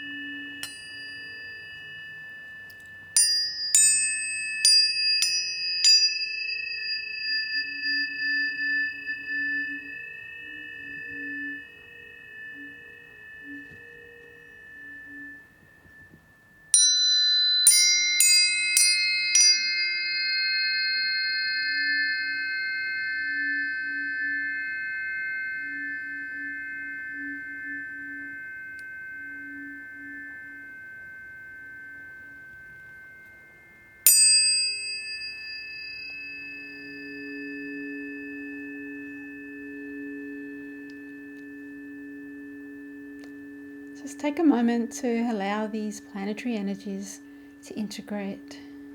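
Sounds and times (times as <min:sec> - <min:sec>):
low steady tone: 0:00.0 - 0:48.9
tuning forks ringing: 0:00.0 - 0:48.9.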